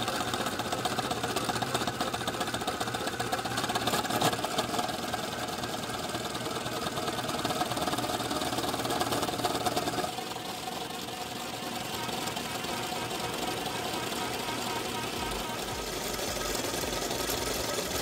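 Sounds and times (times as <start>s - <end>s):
line-spooling machine running: 0.0s - 18.0s.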